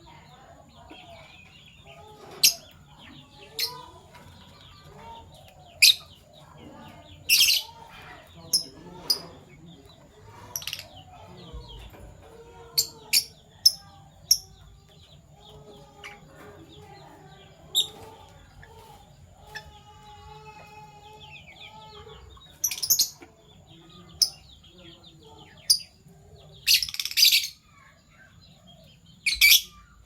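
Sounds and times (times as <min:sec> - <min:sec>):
lovebirds chirping: 0:00.0 - 0:30.0.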